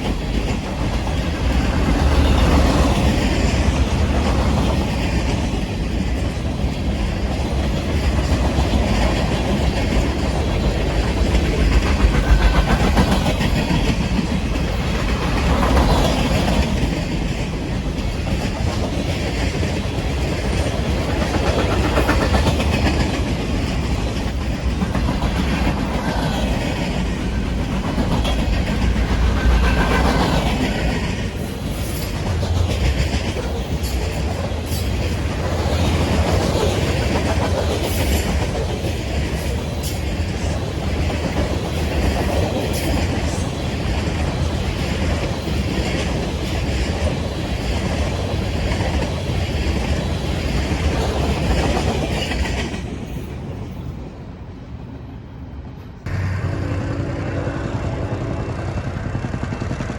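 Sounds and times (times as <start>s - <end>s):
train rumbling past on rails: 0.0s - 59.9s.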